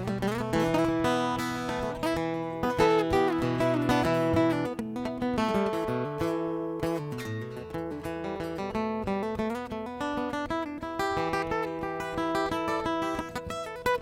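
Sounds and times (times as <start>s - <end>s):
solo acoustic guitar: 0.0s - 14.0s.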